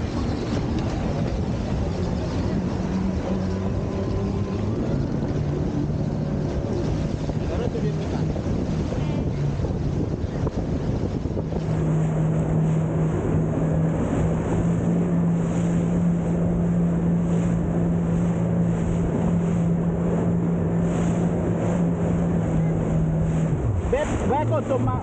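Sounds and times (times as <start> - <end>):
rushing water: 0.0 - 25.0
watercraft engine drone: 0.0 - 25.0
wind on microphone: 0.0 - 25.0.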